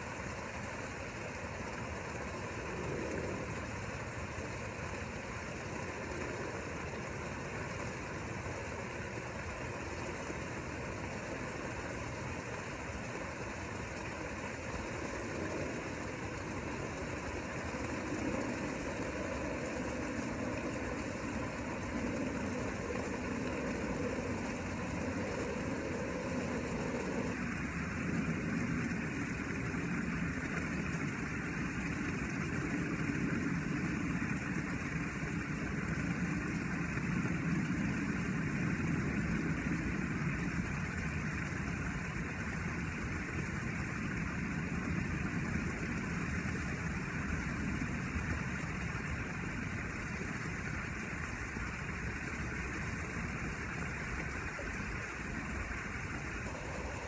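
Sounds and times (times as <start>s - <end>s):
even noise: 0.0s - 57.0s
motor hum: 0.0s - 57.0s.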